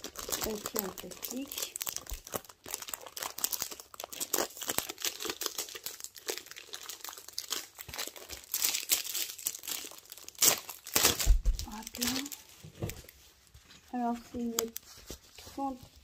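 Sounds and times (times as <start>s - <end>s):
plastic sleeve crinkling: 0.0s - 16.0s.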